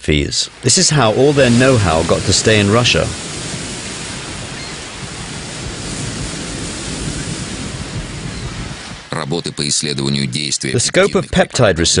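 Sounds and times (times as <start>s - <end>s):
large waves breaking: 0.0s - 10.2s.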